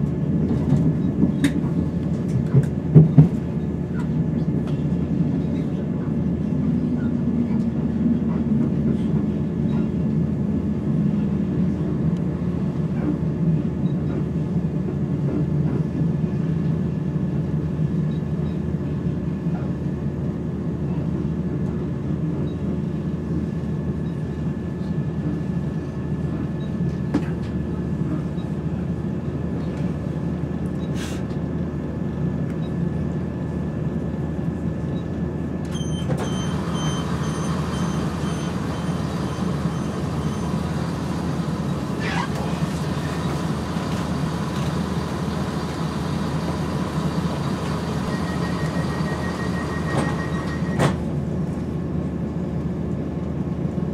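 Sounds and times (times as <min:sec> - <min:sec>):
train running rumble: 0:00.0 - 0:53.9.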